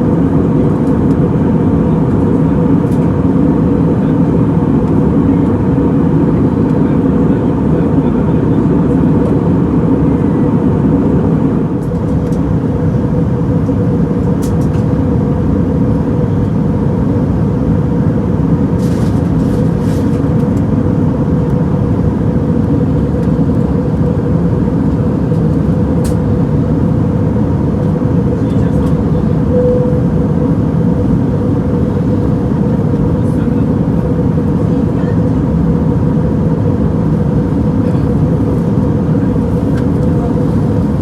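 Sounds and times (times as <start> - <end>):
airplane cabin airflow and engine drone: 0.0 - 41.0
steady hum: 0.0 - 41.0.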